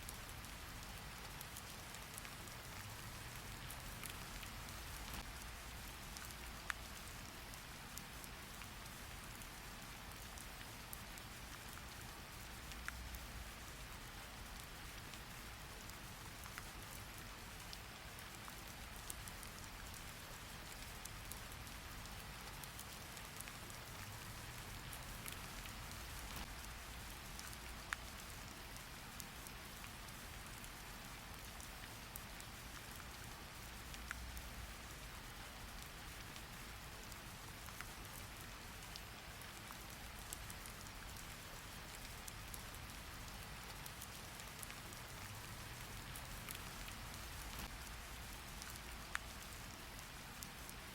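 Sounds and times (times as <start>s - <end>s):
faint raindrop ticks: 0.0s - 50.9s
rain hiss: 0.0s - 50.9s.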